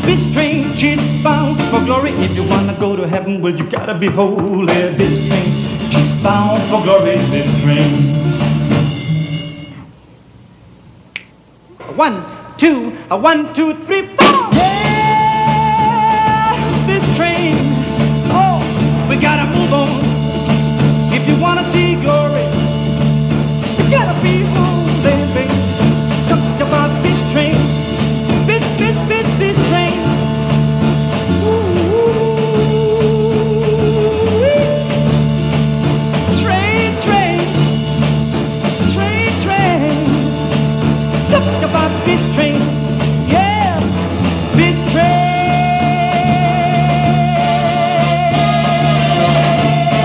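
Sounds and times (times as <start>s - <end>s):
folk-pop band playing: 0.0s - 10.0s, 11.7s - 50.0s.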